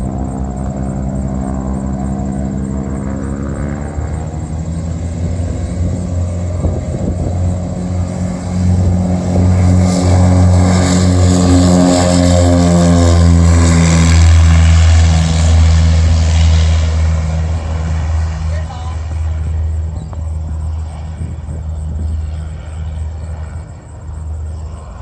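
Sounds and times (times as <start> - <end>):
propeller plane droning past: 0.0 - 25.0.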